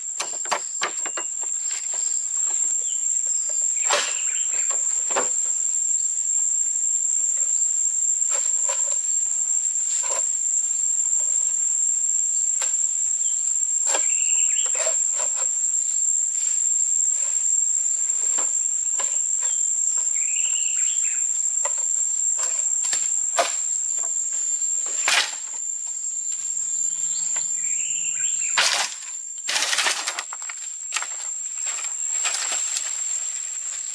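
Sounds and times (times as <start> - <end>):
high-pitched insect trill: 0.0 - 33.9.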